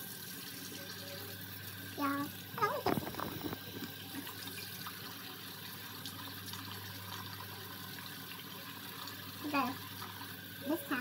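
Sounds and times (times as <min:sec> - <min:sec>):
water running from sink tap: 0:00.0 - 0:11.0.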